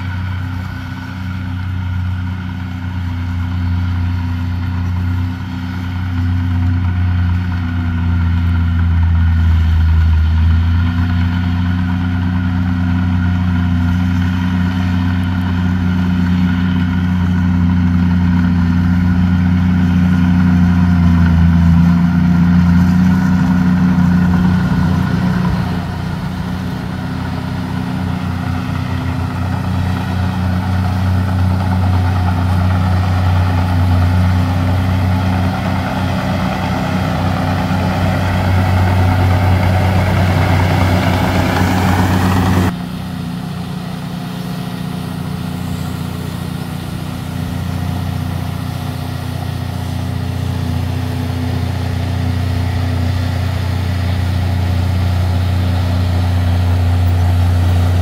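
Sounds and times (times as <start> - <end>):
dozer diesel engine running: 0.0 - 58.0.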